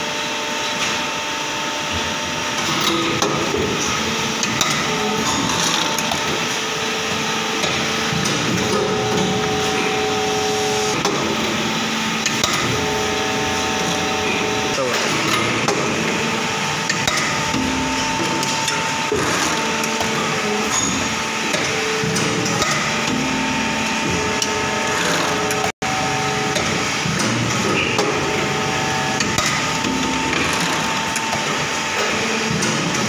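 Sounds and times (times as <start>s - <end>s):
injection moulding machine running: 0.0s - 33.0s.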